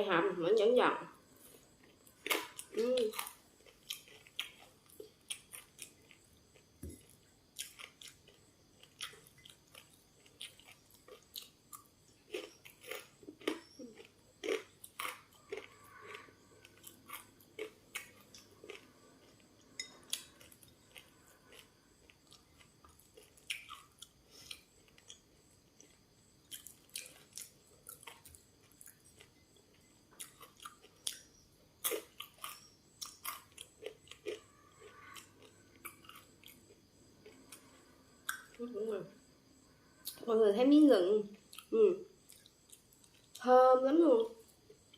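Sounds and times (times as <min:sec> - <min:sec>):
person chewing crunchy food: 0:01.3 - 0:38.6, 0:41.4 - 0:43.4.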